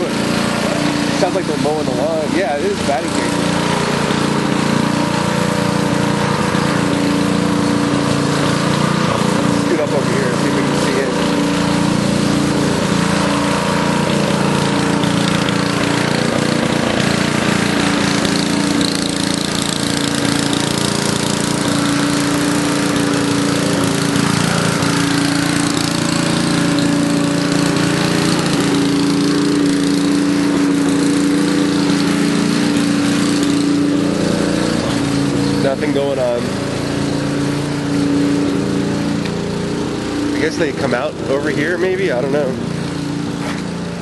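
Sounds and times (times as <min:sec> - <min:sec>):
motor running steadily: 0:00.0 - 0:44.0.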